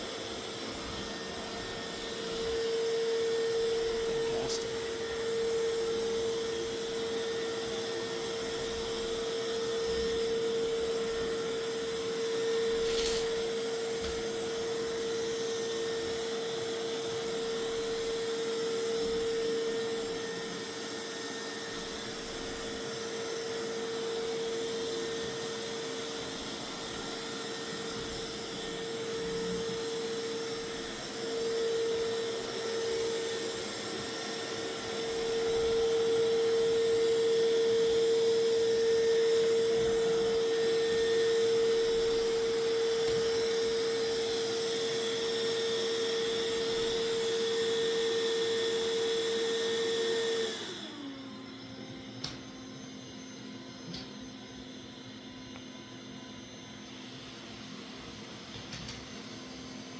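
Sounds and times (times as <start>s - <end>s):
robot vacuum running: 0.0s - 59.9s.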